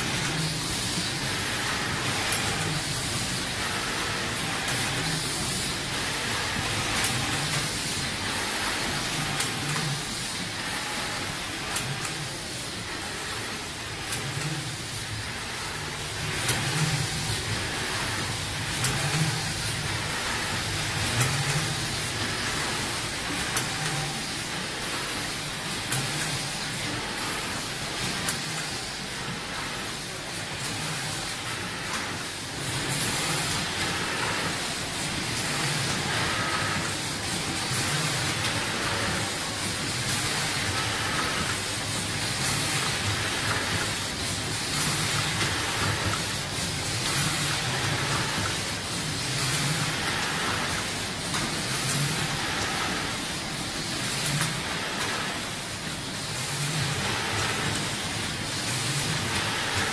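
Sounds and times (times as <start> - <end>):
machine clicks and clunks: 0.0 - 59.9.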